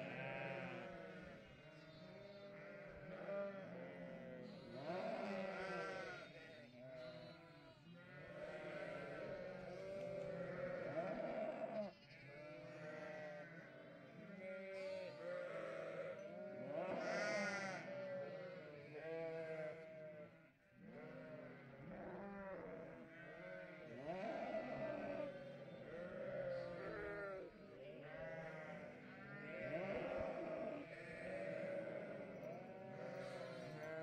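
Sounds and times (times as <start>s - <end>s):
sheep and lambs bleating: 0.0s - 34.0s.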